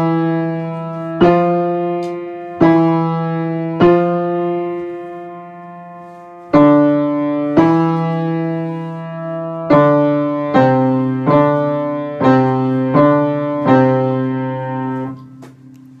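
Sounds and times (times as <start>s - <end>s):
piano notes ringing: 0.0s - 16.0s.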